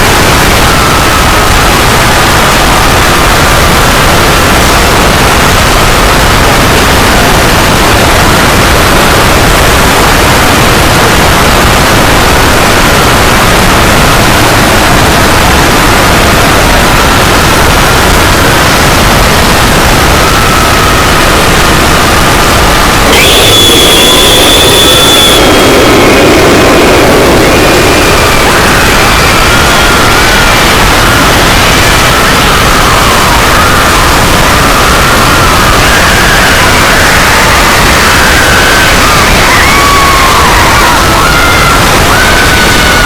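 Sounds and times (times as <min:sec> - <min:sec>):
loud static noise: 0:00.0 - 0:43.0.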